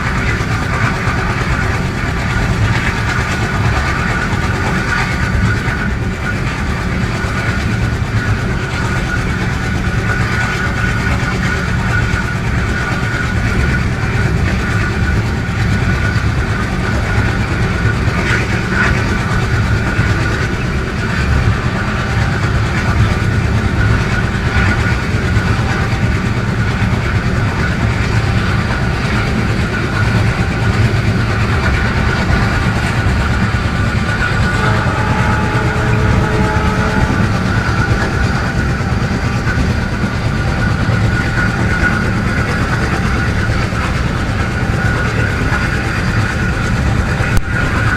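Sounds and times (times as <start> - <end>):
diesel locomotive engine running: 0.0 - 47.9
high whine: 0.0 - 47.9.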